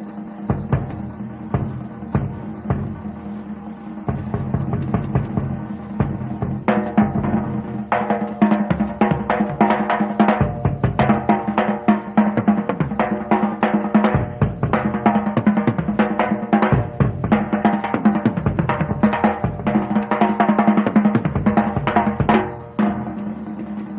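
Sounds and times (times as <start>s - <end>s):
drum kit solo: 0.0s - 23.9s.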